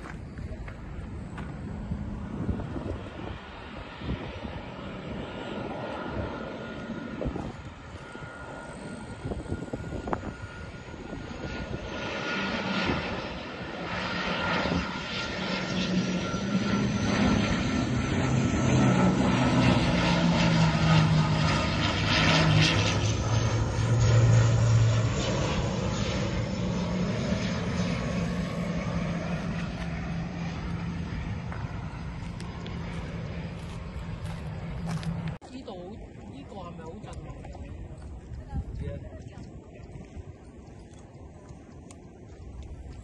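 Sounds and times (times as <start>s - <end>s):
airliner passing overhead: 0.0s - 43.0s.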